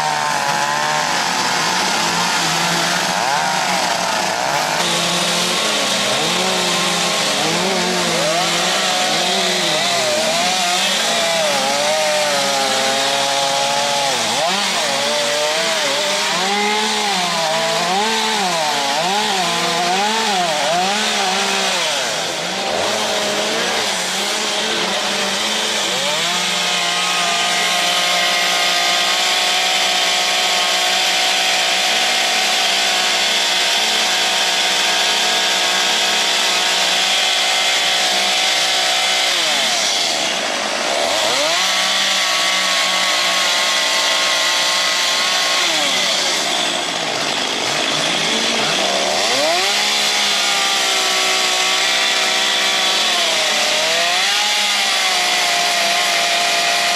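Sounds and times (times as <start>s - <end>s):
chainsaws cutting wood: 0.0s - 56.9s.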